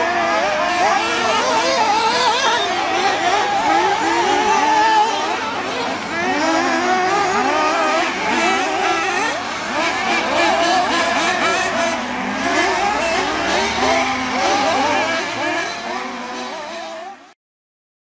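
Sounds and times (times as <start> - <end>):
radio-controlled car engines revving: 0.0 - 17.4.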